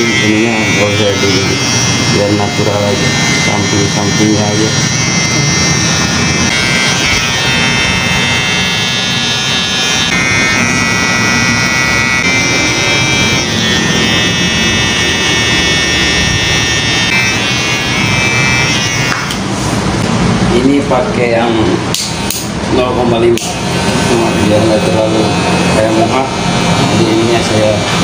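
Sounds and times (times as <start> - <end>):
electric hair trimmer buzzing: 0.0 - 19.5, 23.4 - 28.0.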